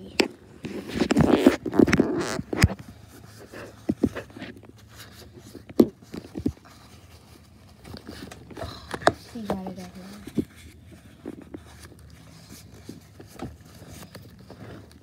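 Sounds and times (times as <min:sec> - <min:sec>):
rustling and knocks: 0:00.0 - 0:15.0.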